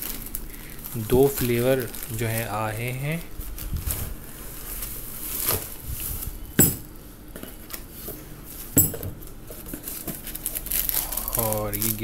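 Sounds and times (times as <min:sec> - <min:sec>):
bubble wrap and cardboard rustling: 0:00.0 - 0:12.0.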